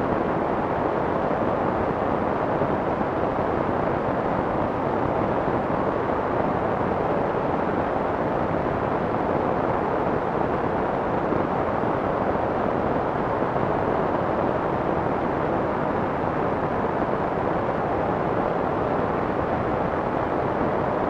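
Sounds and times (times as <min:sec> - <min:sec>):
muffled white noise hiss: 0:00.0 - 0:21.0.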